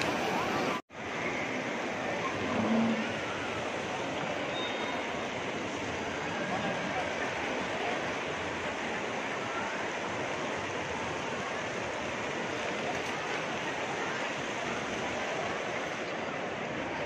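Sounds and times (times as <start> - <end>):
crowd murmur: 0.0 - 17.0.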